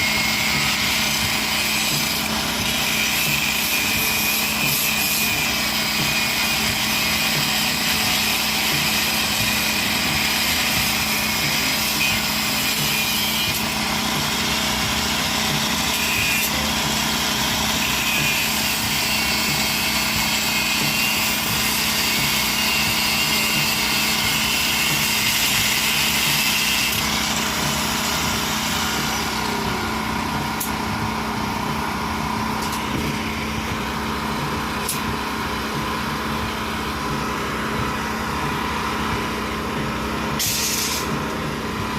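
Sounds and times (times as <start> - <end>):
small engine running steadily: 0.0 - 41.9.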